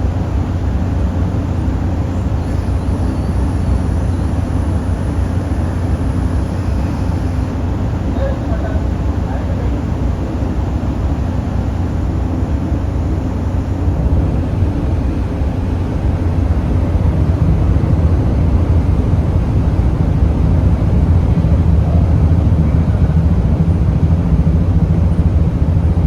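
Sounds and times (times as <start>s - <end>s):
ferry engine drone: 0.0s - 26.0s.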